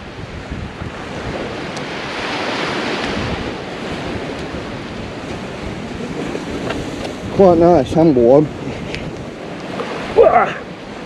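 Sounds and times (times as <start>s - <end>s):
sea waves washing onto beach: 0.0s - 11.0s
wind buffeting microphone: 0.0s - 11.0s.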